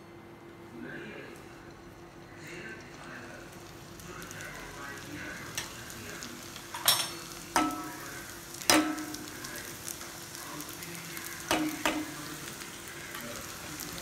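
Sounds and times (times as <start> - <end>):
dough deep-frying in oil: 1.6 - 14.0.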